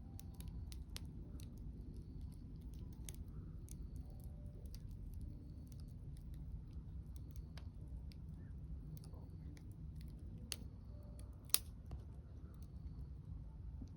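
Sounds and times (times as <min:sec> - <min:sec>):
wood fire crackling: 0:00.0 - 0:12.9
low steady rumble: 0:00.0 - 0:13.9.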